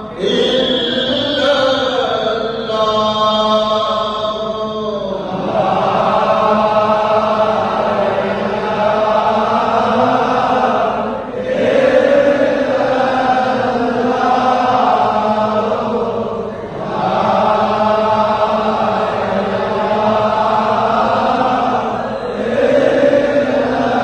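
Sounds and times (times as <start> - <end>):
voices chanting together: 0.0 - 24.0.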